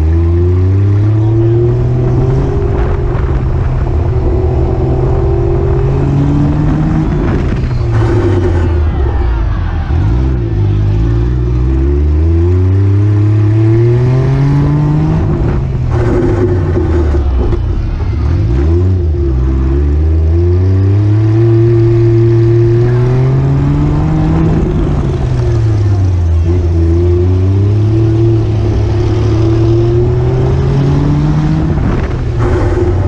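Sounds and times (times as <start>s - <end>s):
small car engine accelerating: 0.0s - 33.0s.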